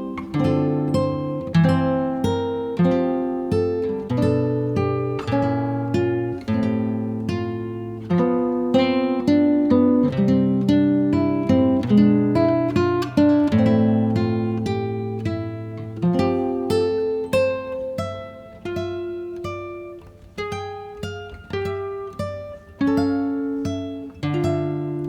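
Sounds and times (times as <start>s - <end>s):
acoustic guitar plucking: 0.0s - 25.0s.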